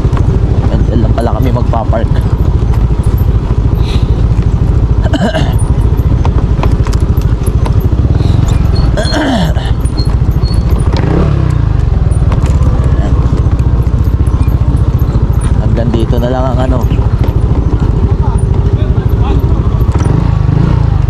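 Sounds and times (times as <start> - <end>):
scooter engine low rumble: 0.0 - 21.0.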